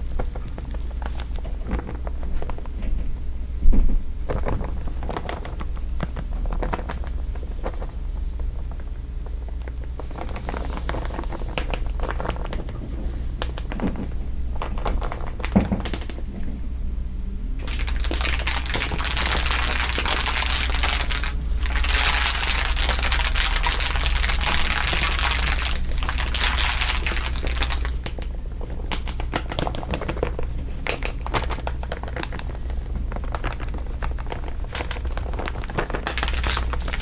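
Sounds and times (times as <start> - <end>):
crinkling crackles and ticks: 0.0 - 16.5, 17.6 - 37.0
low steady hum: 0.0 - 37.0.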